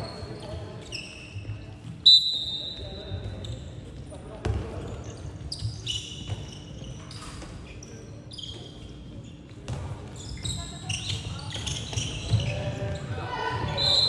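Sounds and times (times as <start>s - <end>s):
sneakers squeaking on court floor: 0.0s - 14.0s.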